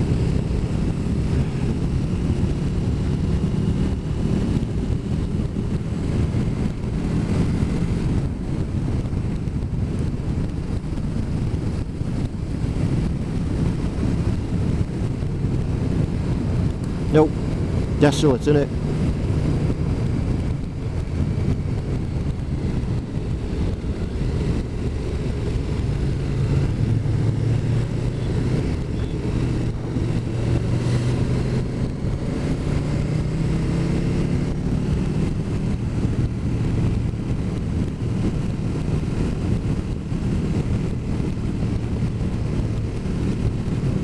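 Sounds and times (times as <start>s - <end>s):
motorcycle engine running: 0.0s - 44.0s
wind rushing over microphone: 0.0s - 44.0s.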